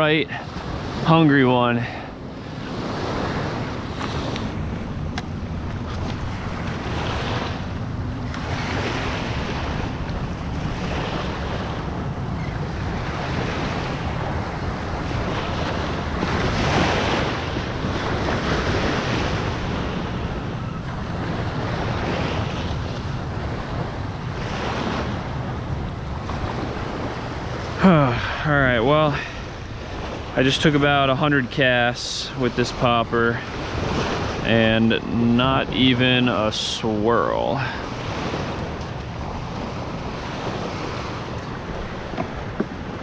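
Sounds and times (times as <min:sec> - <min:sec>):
small waves breaking on shore: 0:00.0 - 0:43.0
wind rumble on microphone: 0:01.8 - 0:36.5, 0:37.4 - 0:43.0.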